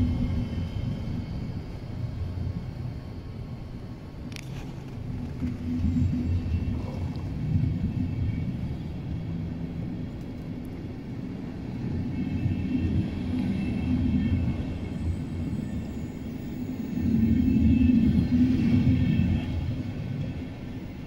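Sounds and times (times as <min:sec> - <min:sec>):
train coaches rumbling on rails: 0:00.0 - 0:21.0.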